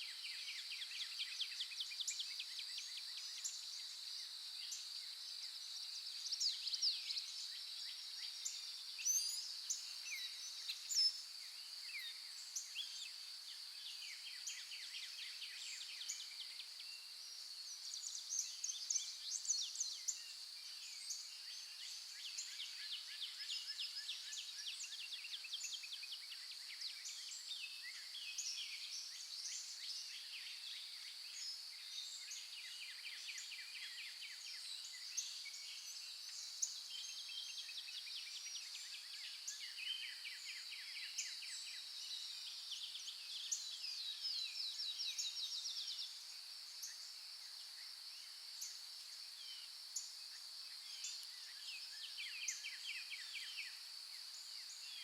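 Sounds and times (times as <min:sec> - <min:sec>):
songbirds chirping and trilling: 0:00.1 - 0:55.0.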